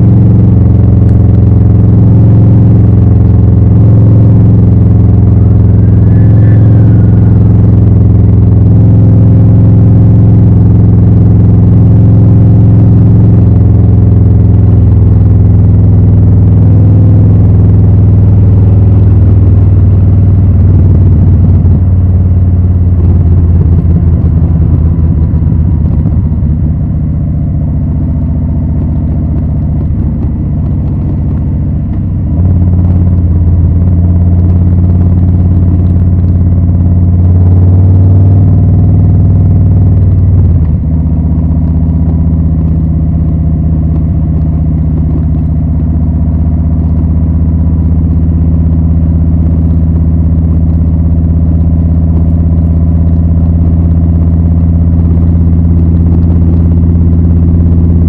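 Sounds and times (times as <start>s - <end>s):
motorcycle exhaust note: 0.0s - 58.0s.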